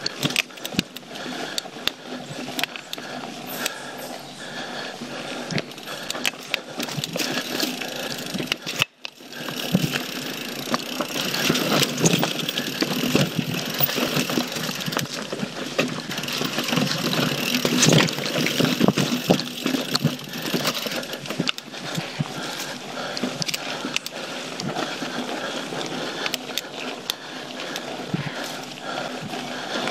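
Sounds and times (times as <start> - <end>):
bike rattling and knocking: 0.0 - 29.9
bike tyres rolling over dirt: 0.0 - 29.9.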